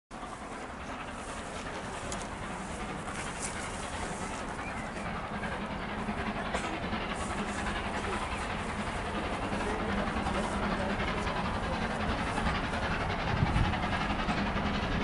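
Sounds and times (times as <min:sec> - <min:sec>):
steam locomotive exhaust chuffing: 0:00.1 - 0:15.0.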